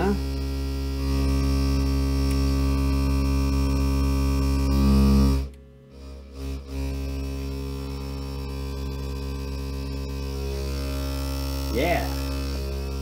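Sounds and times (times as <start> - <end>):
guitar amplifier hum and buzz: 0.0 - 13.0.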